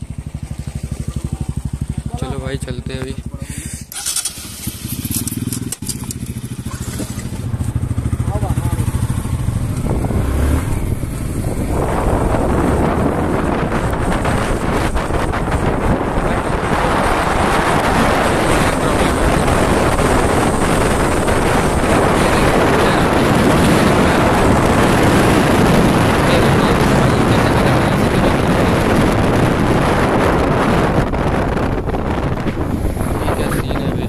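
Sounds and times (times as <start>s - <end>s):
motorcycle engine: 0.0s - 34.0s
road noise: 0.0s - 34.0s
wind rushing over microphone: 0.0s - 34.0s.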